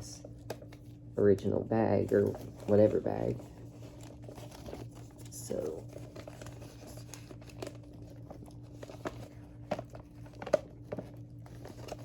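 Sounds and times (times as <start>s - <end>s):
faint steady hum: 0.0s - 12.0s
paper bag crinkling: 1.8s - 12.0s.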